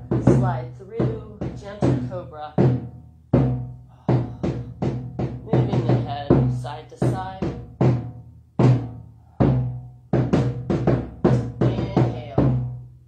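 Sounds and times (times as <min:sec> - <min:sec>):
drum strikes booming: 0:00.0 - 0:12.8.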